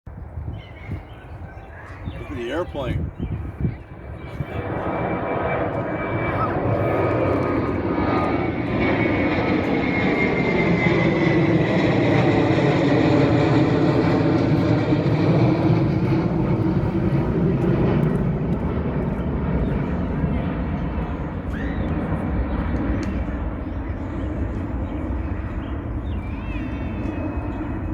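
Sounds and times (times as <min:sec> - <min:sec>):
airplane engines taking off: 0:00.1 - 0:27.9.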